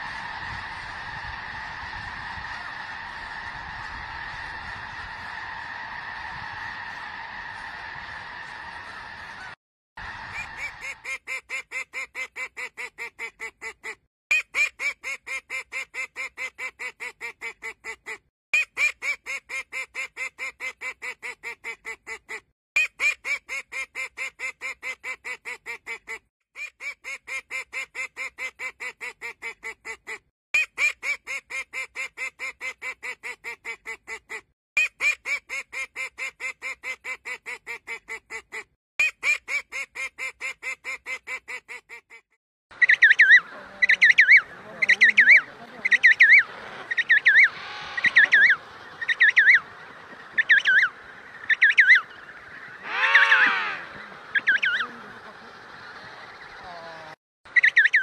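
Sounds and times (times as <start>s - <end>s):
duck quacking: 10.3s - 42.2s, 42.8s - 58.0s.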